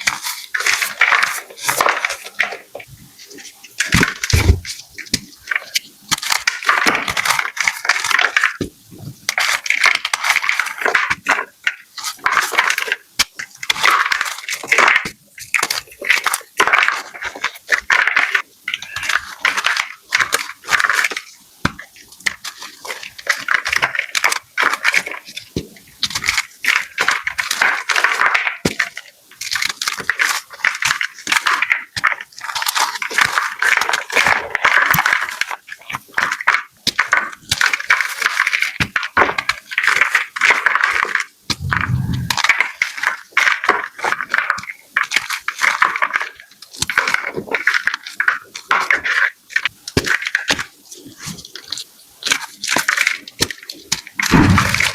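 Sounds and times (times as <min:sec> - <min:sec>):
chalk blocks being crushed: 0:03.8 - 0:08.7, 0:09.3 - 0:49.4.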